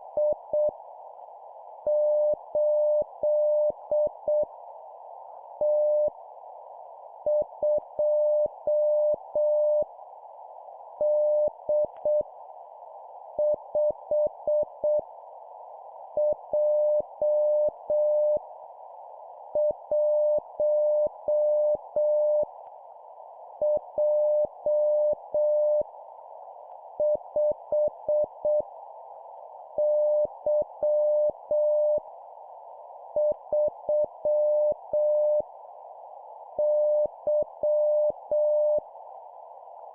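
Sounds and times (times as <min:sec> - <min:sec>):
receiver noise hiss: 0:00.0 - 0:39.9.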